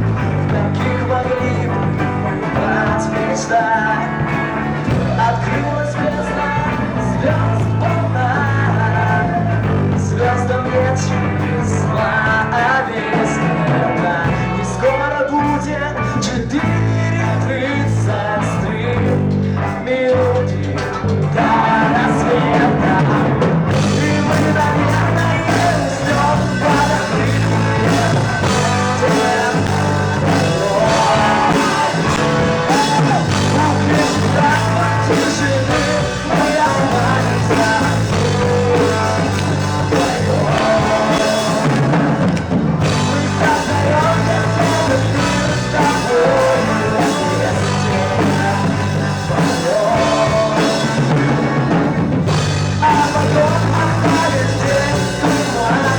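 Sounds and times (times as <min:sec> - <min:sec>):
person singing: 0:00.0 - 0:55.9
rock band playing live: 0:00.0 - 0:55.9.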